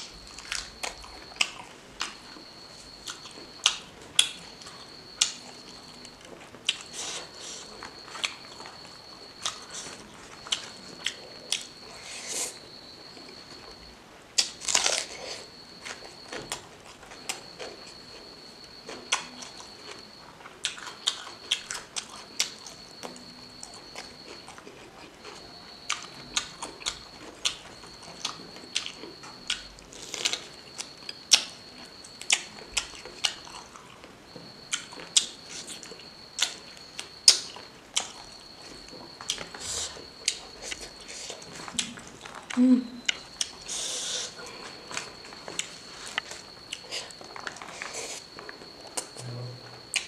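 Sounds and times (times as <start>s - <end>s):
faint high whine: 0.0s - 50.0s.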